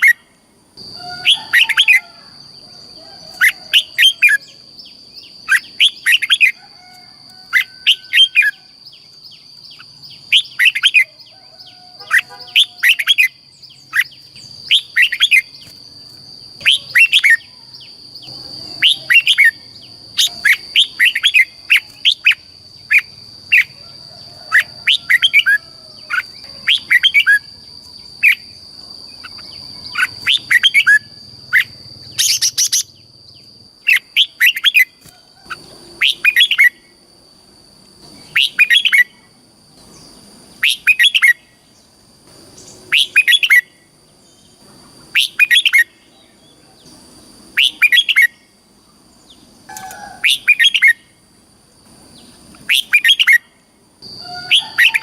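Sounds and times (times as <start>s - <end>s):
bird singing chirpy phrases: 3.4s - 6.6s, 7.5s - 23.8s, 25.0s - 36.9s, 38.0s - 48.5s, 52.2s - 55.0s.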